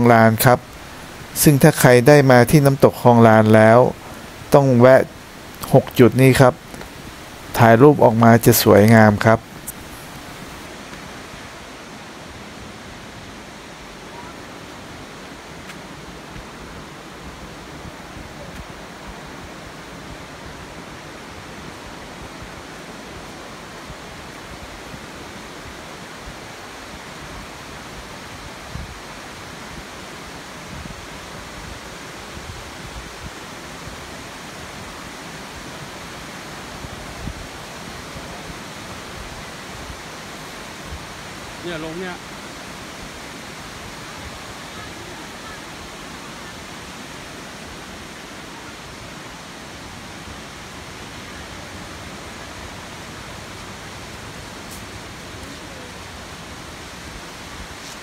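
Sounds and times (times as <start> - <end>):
stream and waterfall rushing: 0.0 - 58.0.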